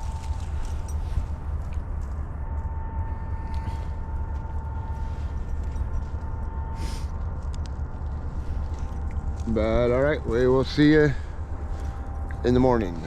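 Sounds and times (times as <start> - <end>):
diesel locomotive rumbling: 0.0 - 13.0
faint steady whine: 0.0 - 13.0.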